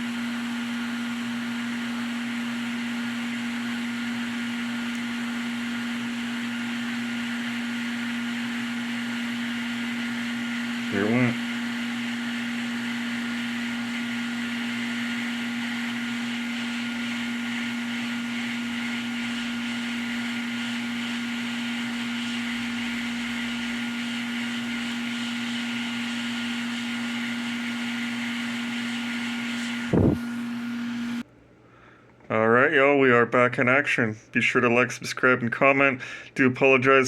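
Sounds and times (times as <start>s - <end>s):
hot air rework station blowing: 0.0s - 31.3s.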